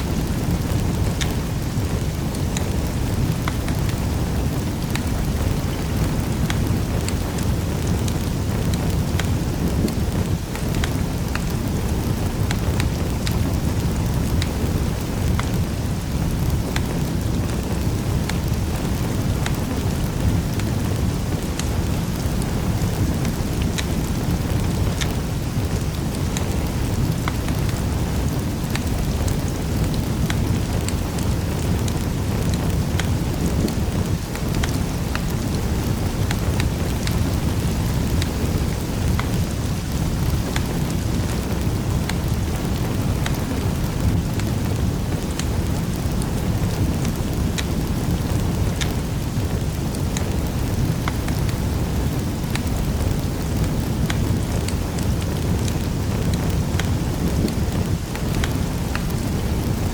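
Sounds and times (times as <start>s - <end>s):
fire low rumble: 0.0s - 59.9s
wood crackling and popping: 0.0s - 59.9s.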